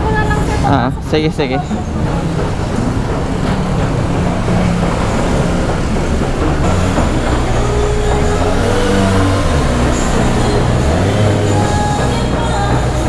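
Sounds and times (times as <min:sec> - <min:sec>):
vehicle engines droning: 0:00.0 - 0:13.0.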